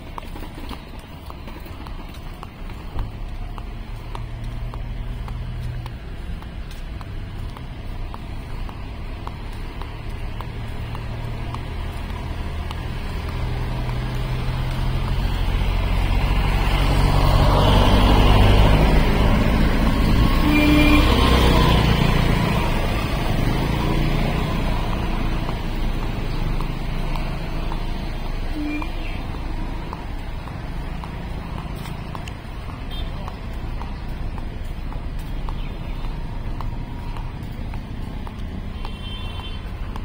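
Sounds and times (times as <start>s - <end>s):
passing traffic: 0.0s - 40.0s
vehicle engine humming: 0.0s - 40.0s.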